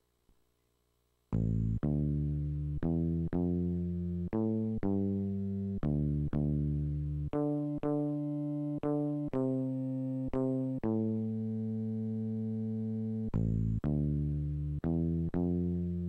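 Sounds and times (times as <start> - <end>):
electric bass line: 1.3 - 16.0.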